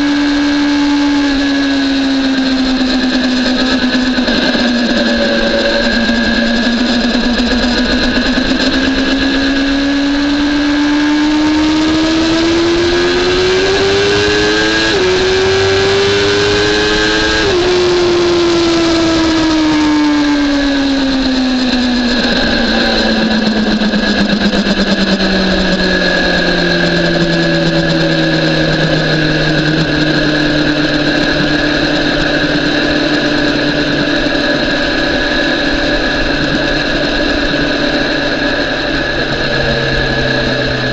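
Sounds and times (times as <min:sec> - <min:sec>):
motorcycle engine revving: 0:00.0 - 0:40.9
steady rushing noise: 0:00.0 - 0:40.9.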